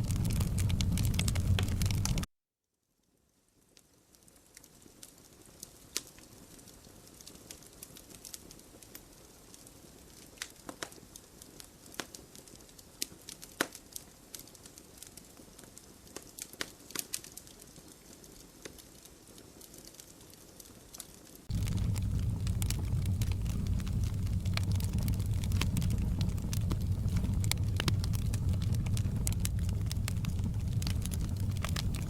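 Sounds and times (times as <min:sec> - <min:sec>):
fire crackling and popping: 0:00.0 - 0:02.3, 0:03.7 - 0:32.0
soft steady hiss: 0:00.0 - 0:02.3, 0:02.9 - 0:32.0.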